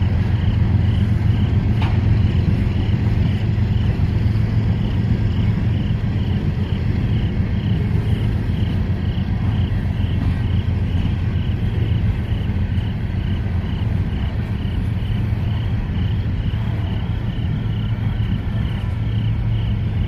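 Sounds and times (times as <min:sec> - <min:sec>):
freight train rumbling past: 0:00.0 - 0:20.0
insect chirping: 0:00.0 - 0:20.0.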